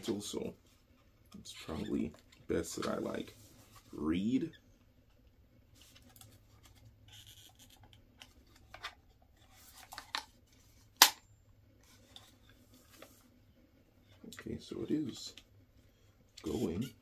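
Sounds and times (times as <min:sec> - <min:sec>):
rustling and scraping: 0:00.0 - 0:11.0, 0:11.8 - 0:17.0.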